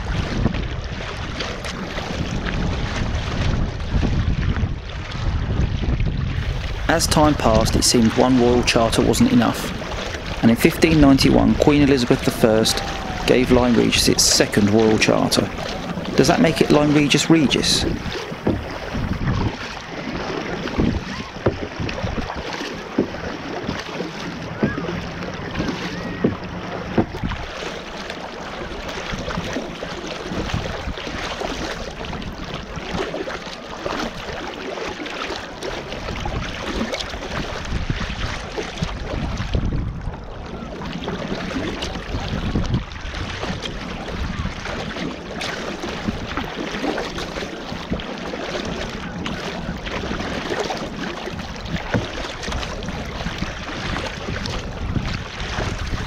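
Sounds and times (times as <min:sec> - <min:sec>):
wind buffeting microphone: 0:00.0 - 0:34.5, 0:35.6 - 0:56.0
paddle strokes in water: 0:00.0 - 0:56.0
water slapping against kayak hull: 0:00.0 - 0:56.0.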